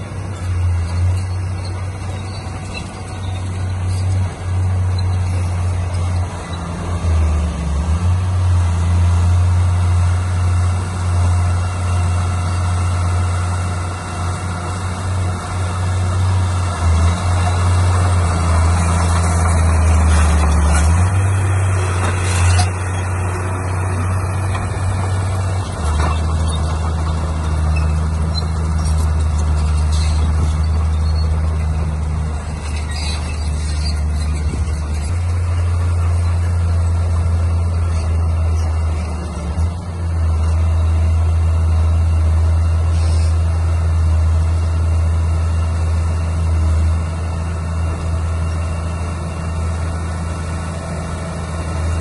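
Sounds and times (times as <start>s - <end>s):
heavy machinery engine hum: 0.0s - 52.0s.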